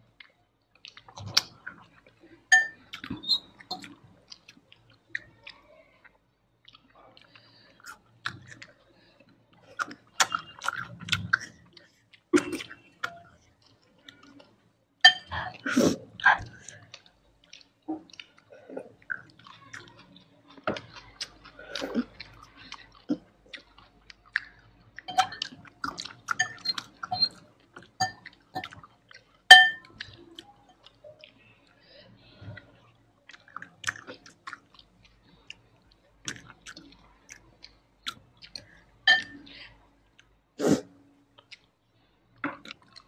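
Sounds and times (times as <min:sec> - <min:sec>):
chewing and wet mouth sounds: 0:00.0 - 0:43.0.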